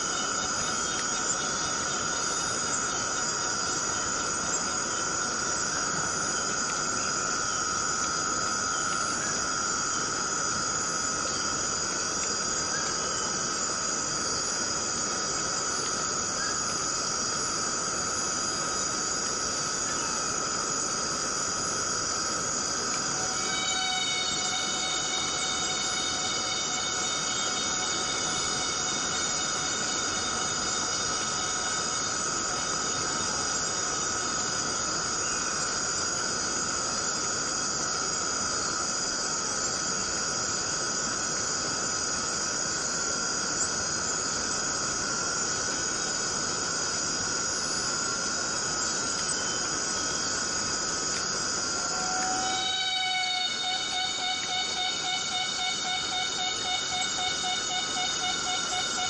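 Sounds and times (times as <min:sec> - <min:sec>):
cicadas buzzing: 0:00.0 - 0:59.0
constant hiss: 0:00.0 - 0:59.0.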